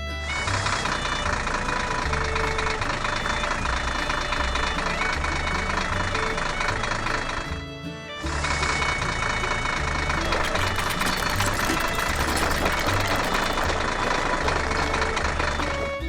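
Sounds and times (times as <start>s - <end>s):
cartoon engine idling: 0.1s - 7.5s, 8.3s - 16.0s.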